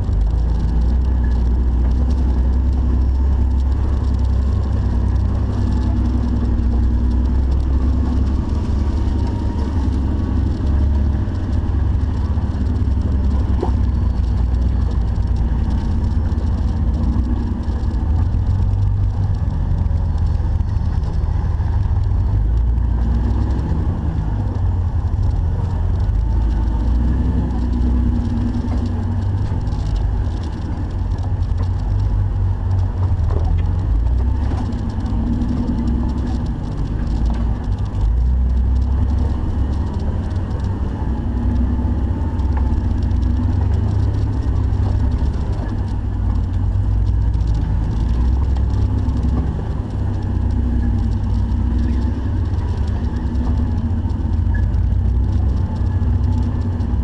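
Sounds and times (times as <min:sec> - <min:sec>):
engine idling with deep rumble: 0:00.0 - 0:57.0.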